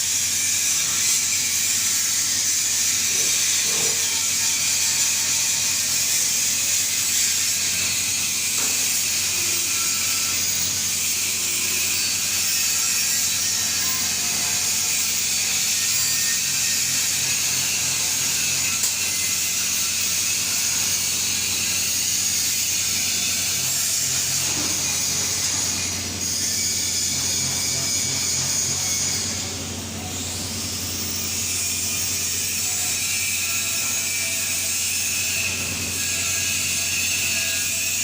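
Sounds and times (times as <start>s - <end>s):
welding arc hissing: 0.0s - 38.0s.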